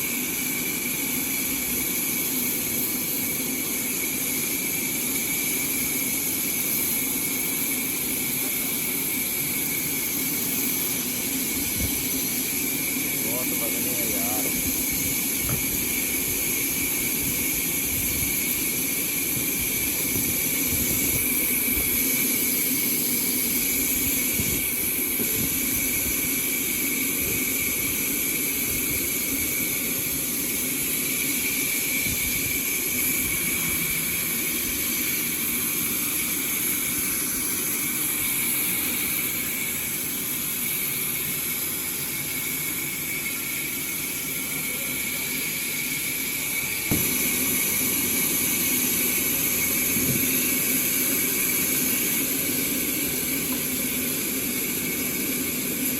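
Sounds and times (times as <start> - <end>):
sawmill saw whining: 0.0 - 55.9.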